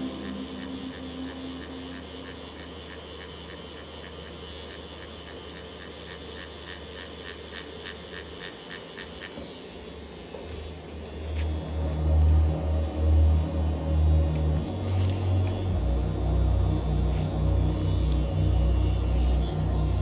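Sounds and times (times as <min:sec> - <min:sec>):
tattoo machine buzzing: 0:00.0 - 0:20.0.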